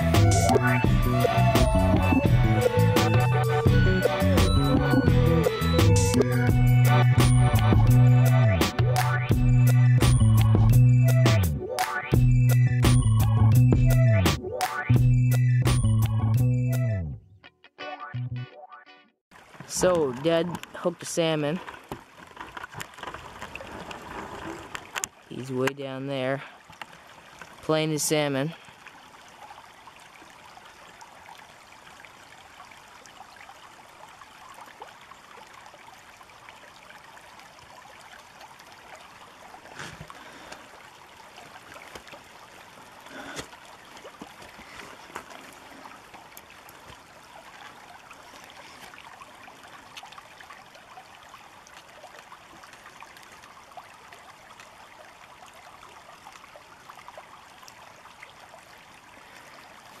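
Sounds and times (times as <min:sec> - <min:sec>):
river water flowing: 0:00.0 - 0:09.5, 0:19.3 - 1:00.0.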